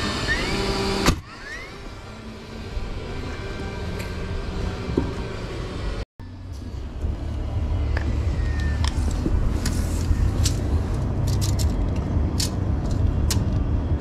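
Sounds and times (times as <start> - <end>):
steady low rumble: 1.9 - 14.0.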